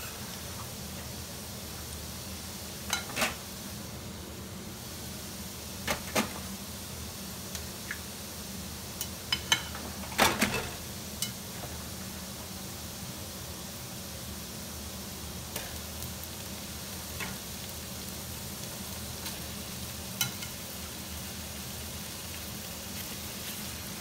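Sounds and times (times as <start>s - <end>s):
garlic frying with pops: 0.0s - 3.8s, 5.5s - 24.0s.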